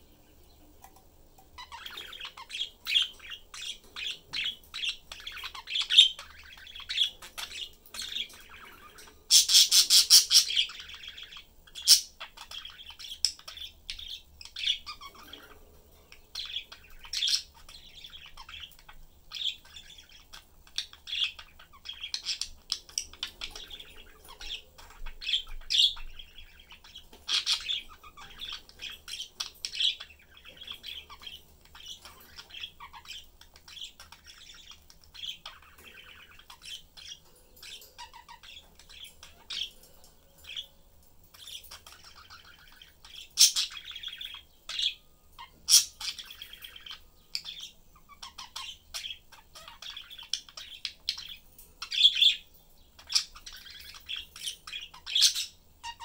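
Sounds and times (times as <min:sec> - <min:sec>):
budgerigars chirping: 0:01.5 - 0:56.0.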